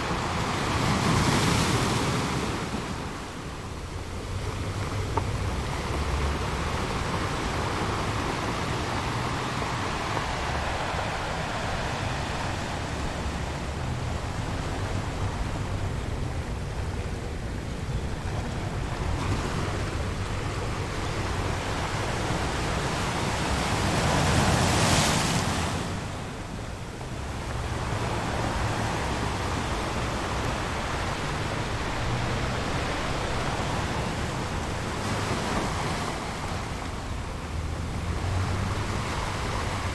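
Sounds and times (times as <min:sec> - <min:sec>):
ocean surf washing ashore: 0:00.0 - 0:39.9.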